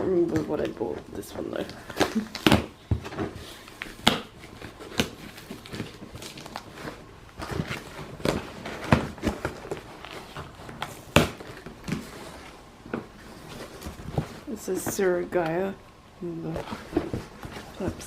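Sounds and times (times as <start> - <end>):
rustling of wrapping: 0.2 - 18.0
handling cardboard box: 0.6 - 15.4, 16.3 - 18.0.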